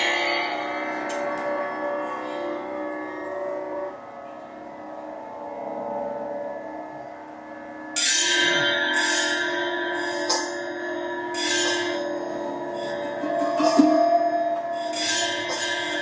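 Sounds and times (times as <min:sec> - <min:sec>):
bell-like tones: 0:00.0 - 0:16.0
steady low tone: 0:00.0 - 0:16.0.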